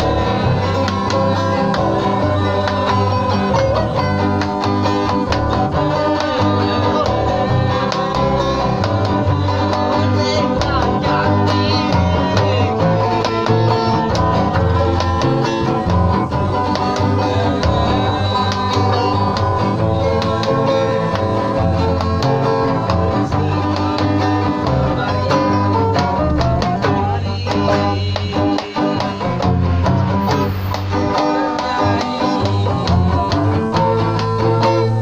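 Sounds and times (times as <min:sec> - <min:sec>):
guitars strumming chords: 0:00.0 - 0:35.0
low blocky guitar notes: 0:00.0 - 0:35.0.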